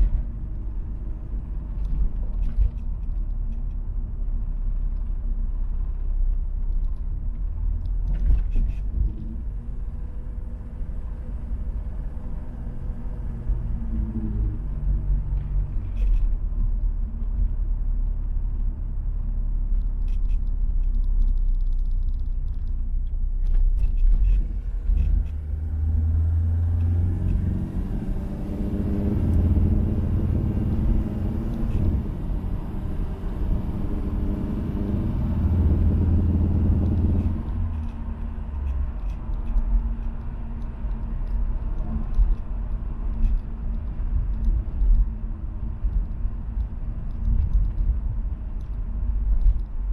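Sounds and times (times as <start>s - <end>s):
diesel car engine rumbling: 0.0s - 49.9s.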